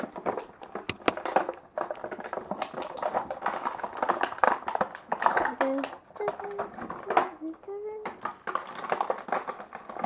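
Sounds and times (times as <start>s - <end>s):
plastic toys clicking on hard floor: 0.0s - 10.0s.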